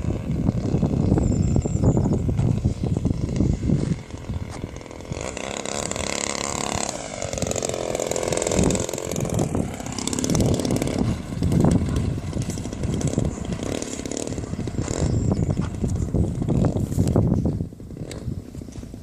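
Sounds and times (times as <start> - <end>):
model plane engine in flight: 0.0 - 19.0.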